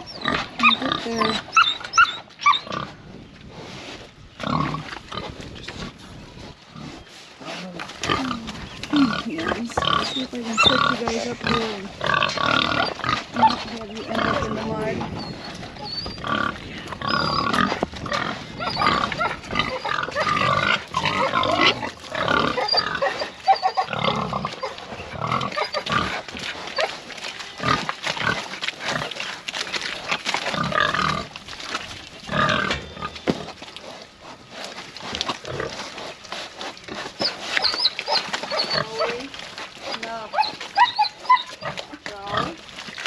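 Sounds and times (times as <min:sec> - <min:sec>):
pigs calling: 0:00.0 - 0:43.0.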